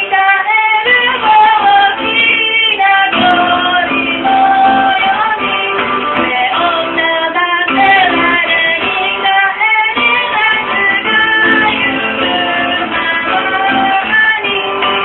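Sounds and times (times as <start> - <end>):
acoustic guitar strumming: 0.0 - 15.0
woman singing: 0.0 - 15.0.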